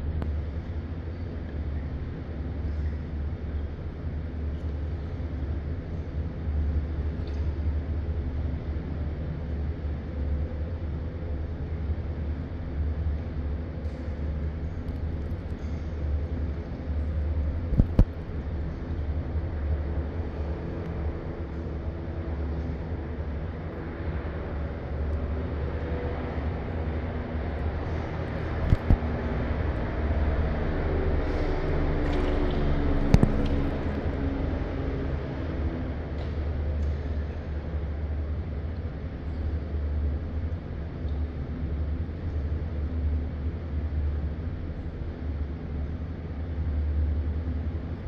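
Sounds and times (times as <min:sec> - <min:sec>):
low hum and rumble: 0:00.0 - 0:48.0.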